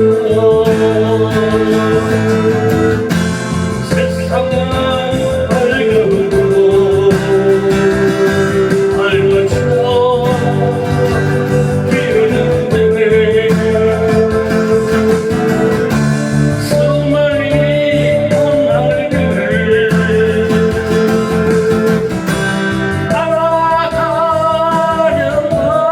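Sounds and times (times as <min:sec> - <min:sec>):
guitar accompaniment: 0:00.0 - 0:25.9
person singing slow song: 0:00.0 - 0:25.9.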